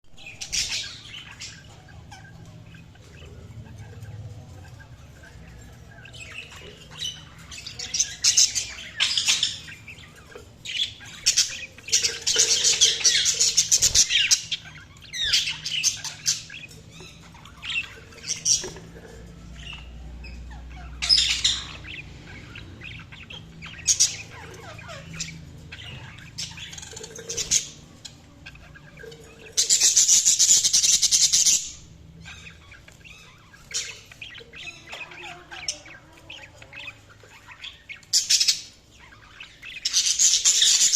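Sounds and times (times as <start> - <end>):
budgerigars chirping: 0.1 - 40.9.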